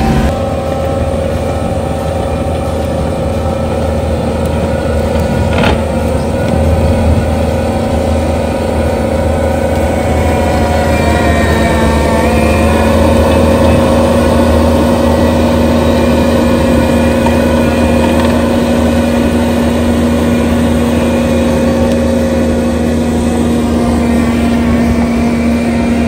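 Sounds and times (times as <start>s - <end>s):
loader engine and mulcher grinding: 0.0s - 26.0s.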